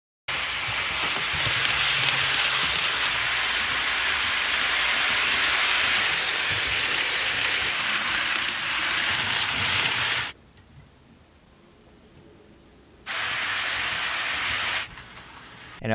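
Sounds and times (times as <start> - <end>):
model train wheels on rails: 0.3 - 10.4, 13.1 - 15.8.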